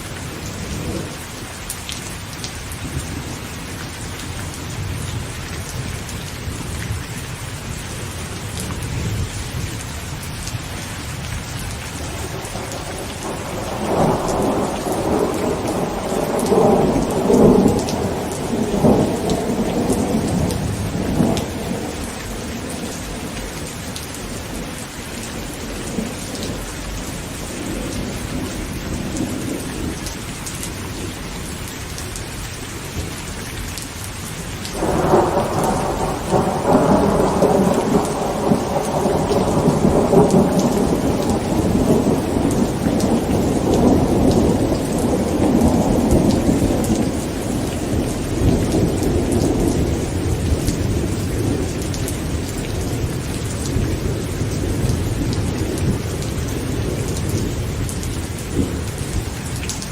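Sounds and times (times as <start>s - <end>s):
thunder rumbling and crackling: 0.0s - 2.0s, 2.6s - 32.2s, 34.6s - 59.9s
heavy rain on a tent: 0.0s - 59.9s.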